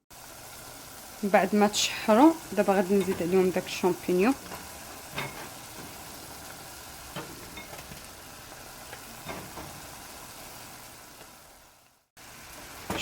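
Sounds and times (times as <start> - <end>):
seafood sizzling in a pot: 0.0 - 13.0.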